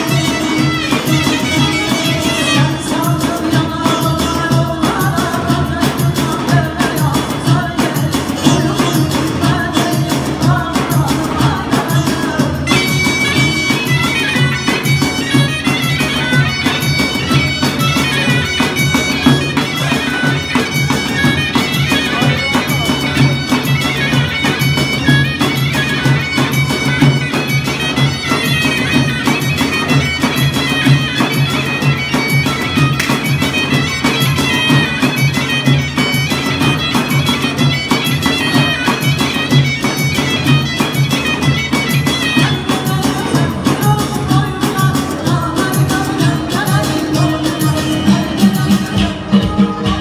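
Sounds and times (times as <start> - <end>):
large drum beating rhythm: 0.0 - 50.0.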